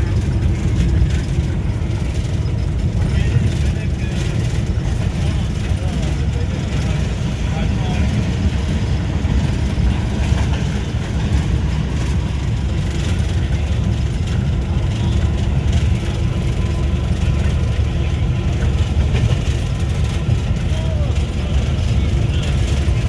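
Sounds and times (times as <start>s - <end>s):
locomotive diesel engine rumble: 0.0s - 23.0s.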